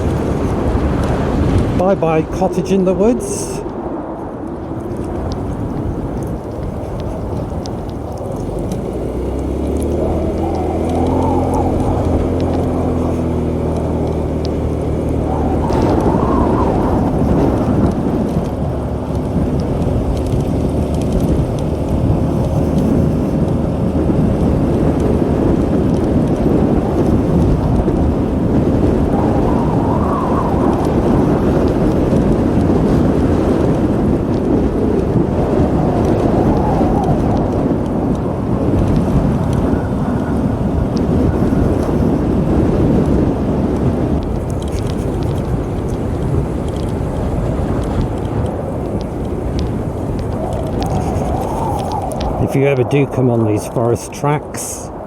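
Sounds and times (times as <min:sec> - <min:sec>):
wind rumble on microphone: 0:00.0 - 0:55.0
motorbike engine running: 0:05.0 - 0:29.6, 0:30.6 - 0:52.2.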